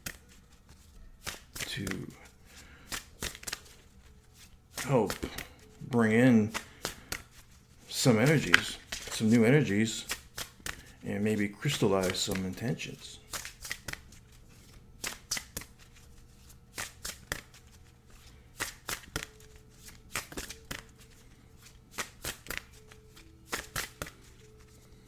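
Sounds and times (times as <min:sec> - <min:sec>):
cards being shuffled: 0:00.0 - 0:25.0.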